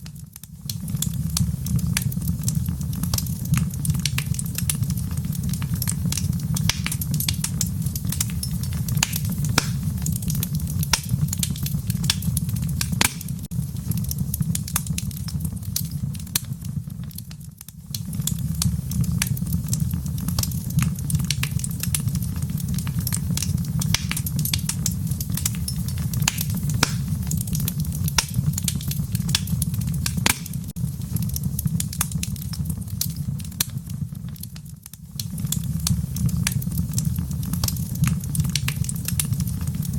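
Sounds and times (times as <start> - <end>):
fire popping and snapping: 0.0 - 39.9
low rumble of flames: 0.0 - 39.9.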